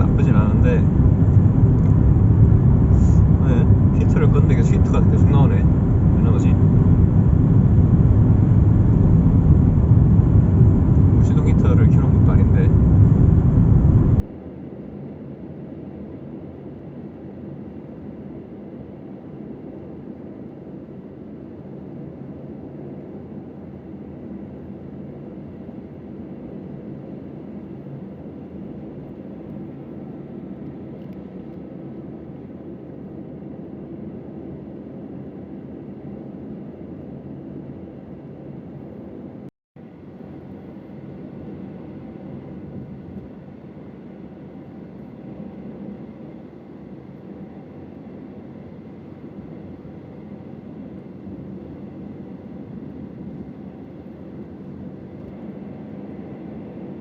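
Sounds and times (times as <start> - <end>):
engine and road noise in cabin: 0.0 - 57.0.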